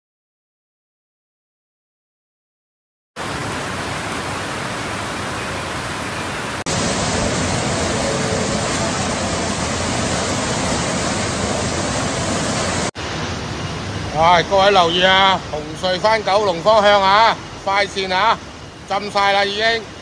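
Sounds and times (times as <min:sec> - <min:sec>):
floodwater rushing: 0:03.2 - 0:20.0.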